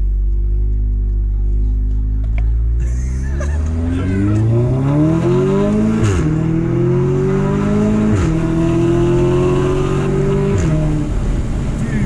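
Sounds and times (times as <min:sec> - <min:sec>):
car engine accelerating through gears: 0:00.0 - 0:12.0.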